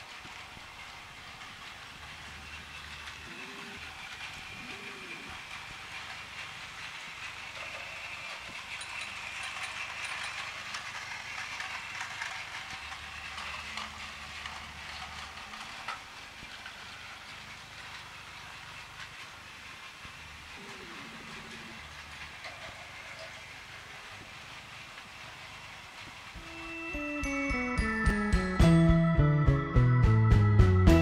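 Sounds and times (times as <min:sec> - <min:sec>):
toy train motor whirring: 0:00.0 - 0:28.0.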